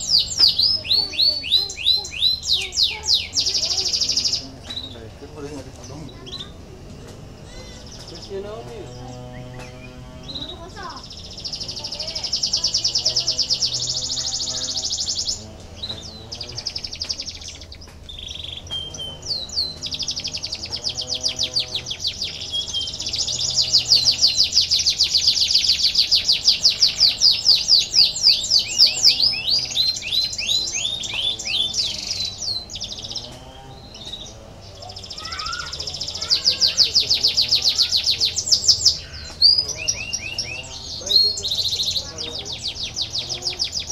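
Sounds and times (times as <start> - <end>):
canary singing rolling trills: 0.0 - 43.9.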